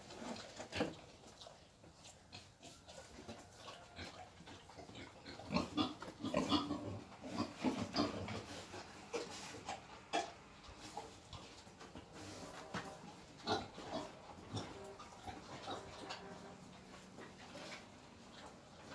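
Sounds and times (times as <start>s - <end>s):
wild boar grunting and snuffling: 0.0s - 18.9s.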